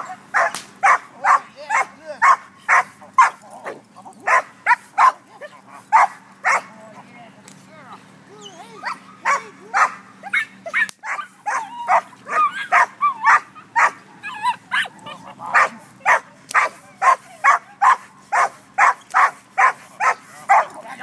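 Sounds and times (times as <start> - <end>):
dog barking aggressively: 0.0 - 6.7, 8.8 - 21.0
dog yelping: 0.0 - 6.7, 8.3 - 21.0.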